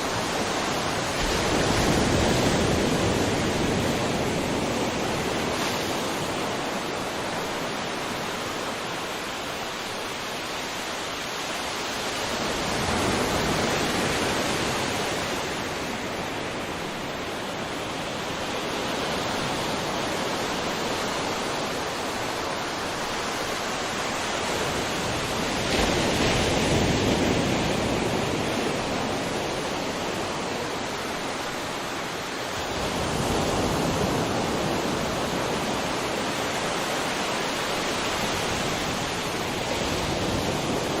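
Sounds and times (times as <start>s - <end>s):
sea waves washing on shore: 0.0s - 41.0s.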